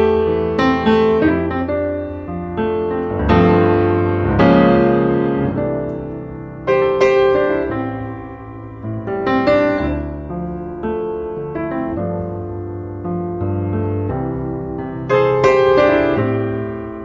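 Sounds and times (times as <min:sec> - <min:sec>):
piano notes and chords: 0:00.0 - 0:17.0.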